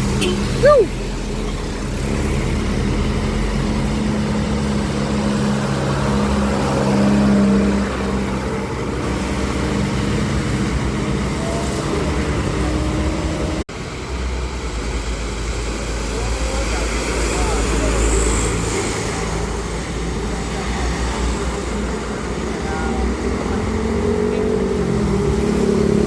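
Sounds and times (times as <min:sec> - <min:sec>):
traffic engines running: 0:00.0 - 0:26.0
tyres hissing on wet road: 0:00.0 - 0:26.0.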